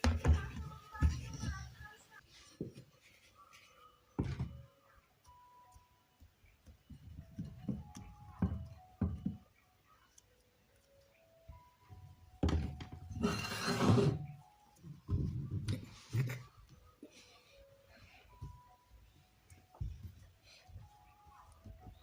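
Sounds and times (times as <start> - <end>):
quiet background music: 0.0 - 22.0.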